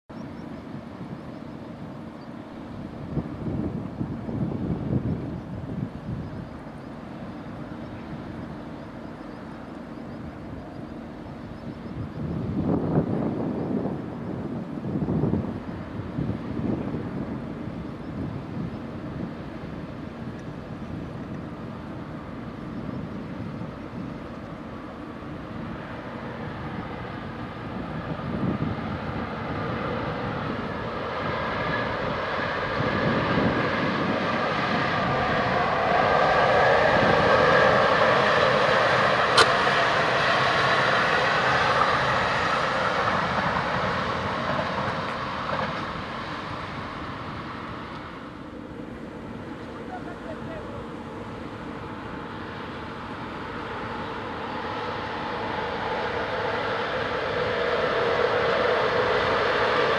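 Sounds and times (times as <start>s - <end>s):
passenger train passing: 0.2s - 59.9s.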